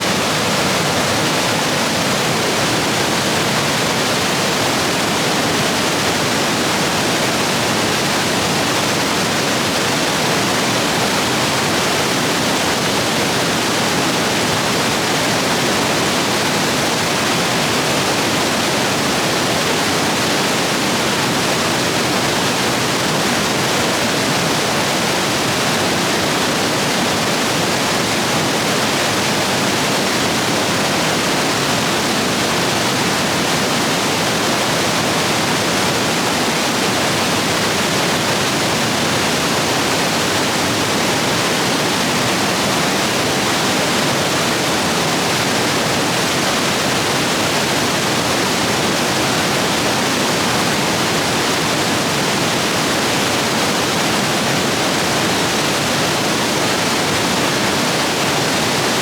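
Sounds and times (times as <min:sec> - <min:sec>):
stream rapids roaring: 0:00.0 - 0:59.0.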